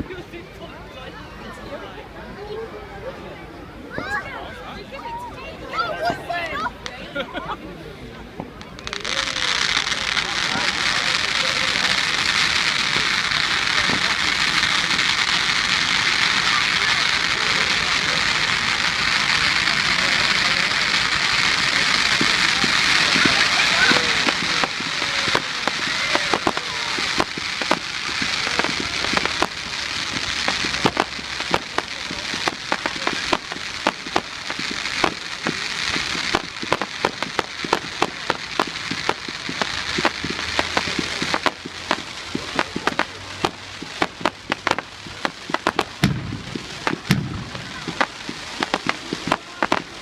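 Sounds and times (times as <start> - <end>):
firework crackle of sharp pops: 8.3 - 50.0
steady hiss: 8.5 - 50.0.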